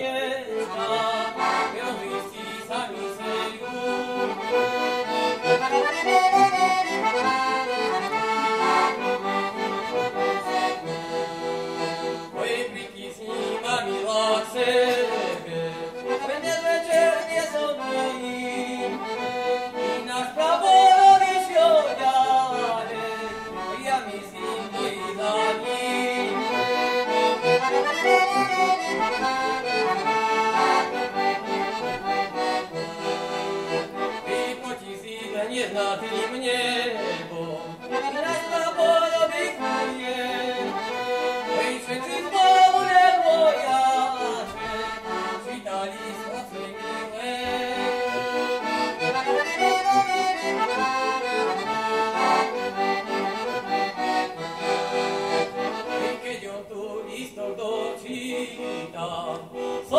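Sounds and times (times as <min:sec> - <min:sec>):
button accordion folk tune: 0:00.0 - 0:59.9.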